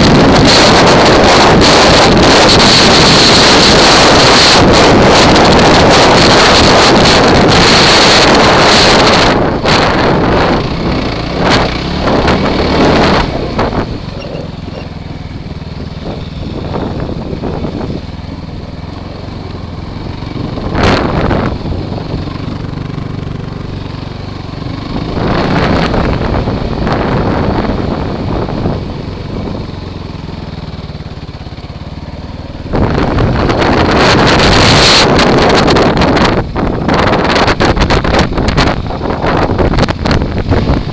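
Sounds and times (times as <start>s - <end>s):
quad bike engine: 0.0s - 40.9s
wind buffeting microphone: 0.0s - 40.9s.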